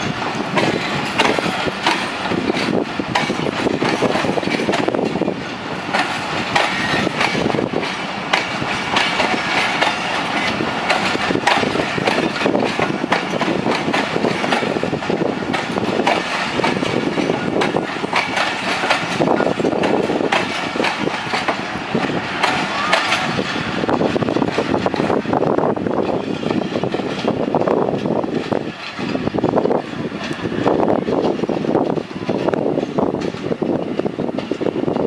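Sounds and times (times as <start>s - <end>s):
train wheels clattering on rails: 0.0s - 35.0s.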